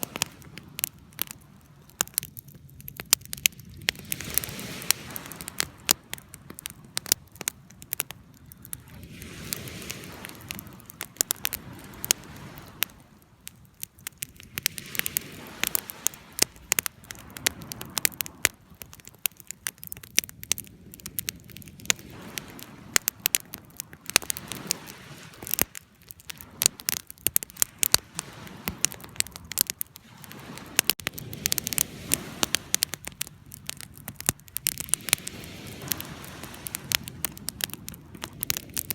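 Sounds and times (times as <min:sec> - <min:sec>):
rush of flames: 0:00.0 - 0:38.9
wood fire crackling: 0:00.0 - 0:38.9.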